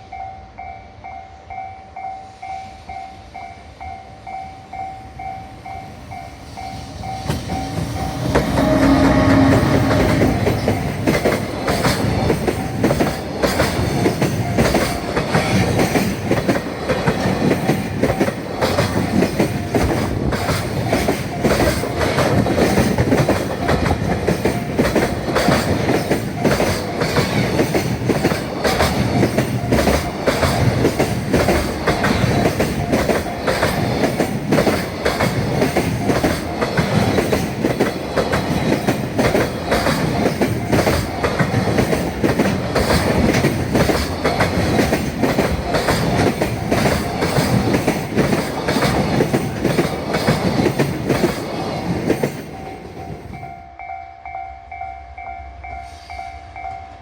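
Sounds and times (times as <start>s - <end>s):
level crossing warning bell: 0.0s - 16.4s, 20.8s - 48.3s, 52.2s - 57.0s
freight train passing: 0.0s - 57.0s
wheels clicking over rail joints: 7.3s - 53.4s.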